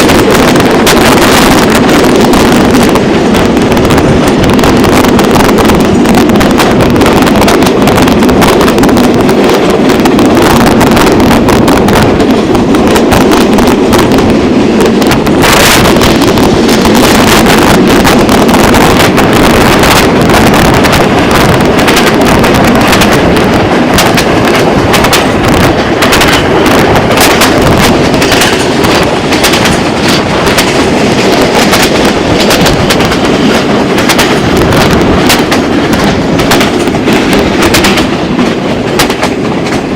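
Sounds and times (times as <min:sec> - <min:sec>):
passenger train running: 0:00.0 - 0:39.9
wind buffeting microphone: 0:00.0 - 0:39.9.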